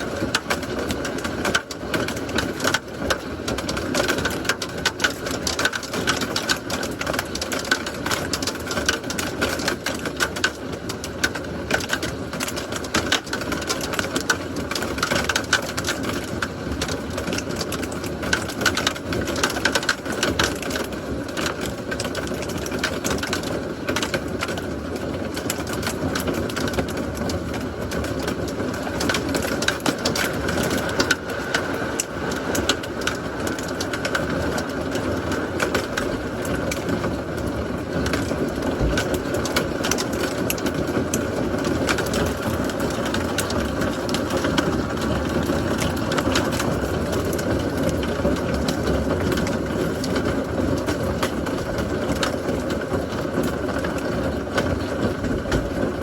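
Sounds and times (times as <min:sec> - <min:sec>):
heavy rain with drop hits: 0:00.0 - 0:56.0.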